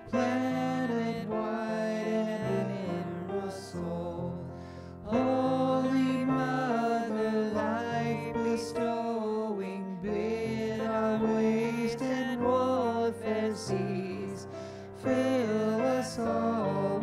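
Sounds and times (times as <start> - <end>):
hymn sung slowly: 0.0 - 17.0.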